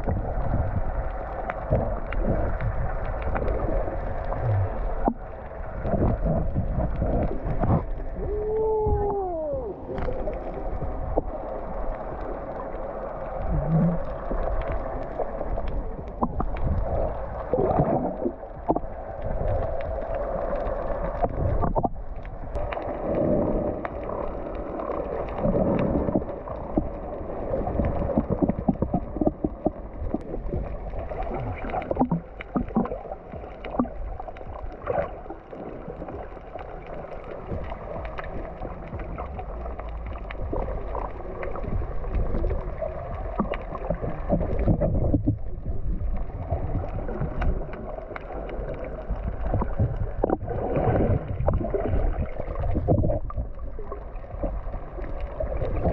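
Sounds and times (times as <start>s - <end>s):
muffled underwater water sloshing: 0.0s - 55.9s.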